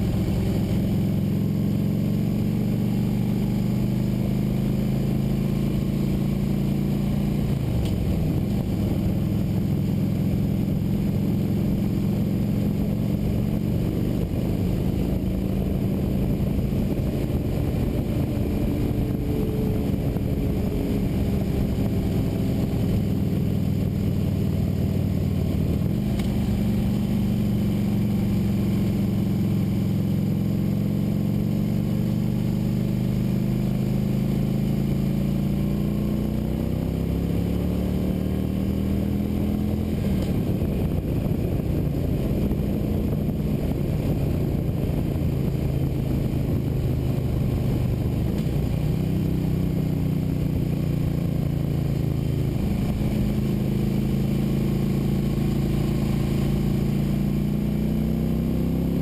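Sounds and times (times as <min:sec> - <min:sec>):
motorcycle engine accelerating: 0:00.0 - 0:59.0
road and wind noise: 0:00.0 - 0:59.0.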